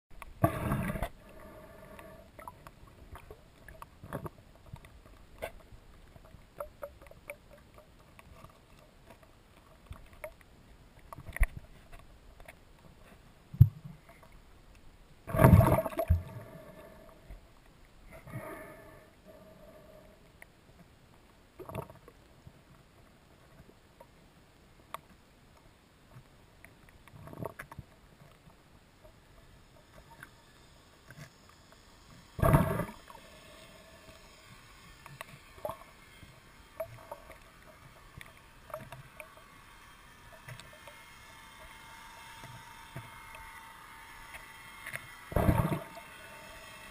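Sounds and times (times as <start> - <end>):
water gurgling and sloshing: 0.1 - 46.9.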